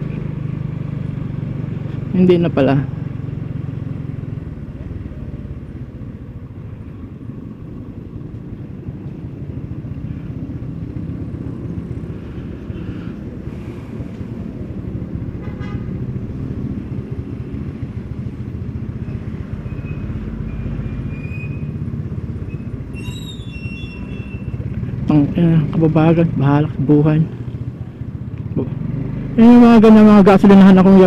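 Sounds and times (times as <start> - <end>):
motorcycle engine rumbling: 0.0 - 31.0.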